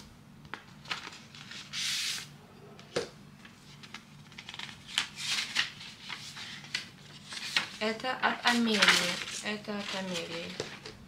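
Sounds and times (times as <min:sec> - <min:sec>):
paper rustling and crackling: 0:00.5 - 0:02.2, 0:03.4 - 0:11.0.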